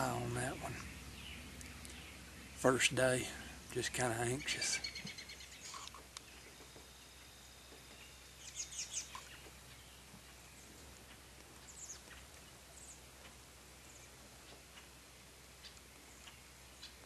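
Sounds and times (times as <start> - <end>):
songbirds chirping: 0.0 - 17.0
woodland ambience hiss: 0.0 - 17.0.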